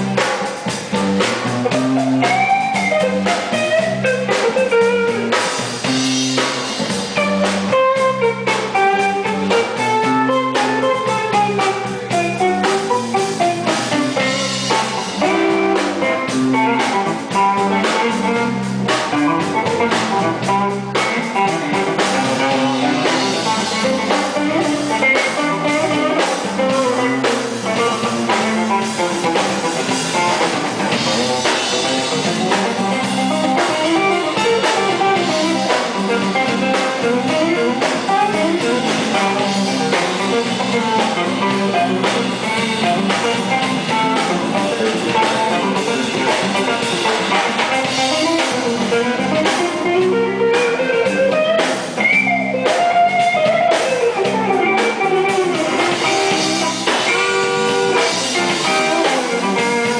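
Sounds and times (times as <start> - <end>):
blues rock band playing: 0.0 - 59.9
electric guitar lead: 0.0 - 59.9.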